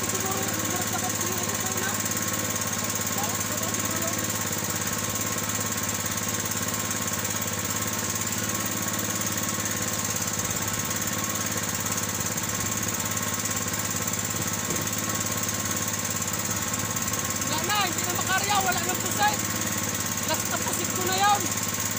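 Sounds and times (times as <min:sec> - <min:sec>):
boat engine chugging: 0:00.0 - 0:21.9.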